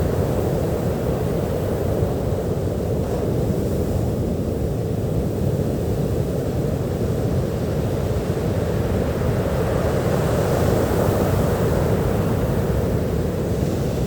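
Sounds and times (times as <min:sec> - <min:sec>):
ocean waves washing on beach: 0:02.5 - 0:14.0.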